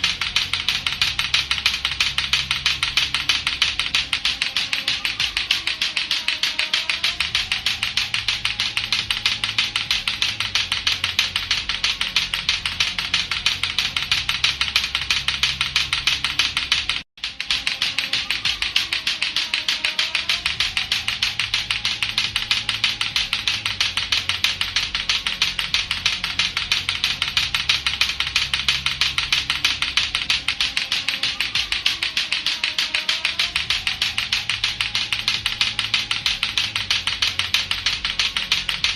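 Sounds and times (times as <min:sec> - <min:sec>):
clacker toy balls clacking: 0:00.0 - 0:38.9.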